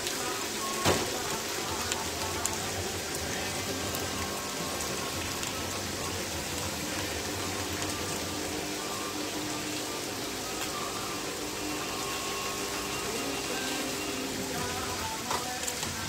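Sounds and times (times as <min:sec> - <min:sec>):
pasta simmering in broth: 0:00.0 - 0:16.0.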